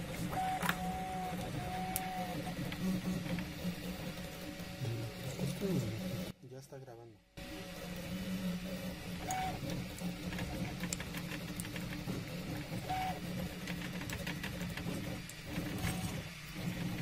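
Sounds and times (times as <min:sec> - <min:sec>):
printer mechanical hum: 0:00.0 - 0:06.4, 0:07.3 - 0:17.0.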